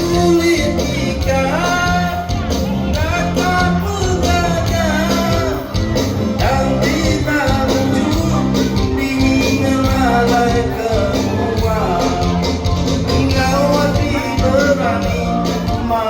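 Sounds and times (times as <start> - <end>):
held bass notes: 0.0 - 16.0
person singing: 0.0 - 16.0.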